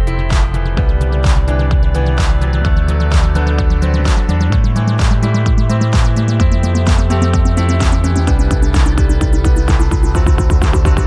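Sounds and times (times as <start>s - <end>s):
electronic music with bass: 0.0s - 11.0s.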